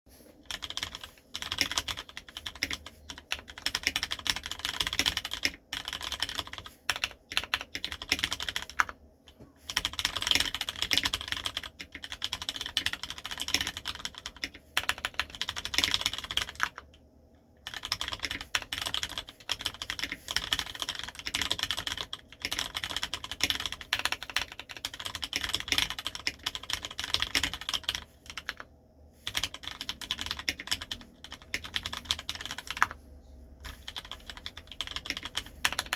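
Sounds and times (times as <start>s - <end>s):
mechanical keyboard typing: 0.4s - 9.0s, 9.7s - 17.0s, 17.6s - 28.7s, 29.3s - 33.0s, 33.6s - 35.9s.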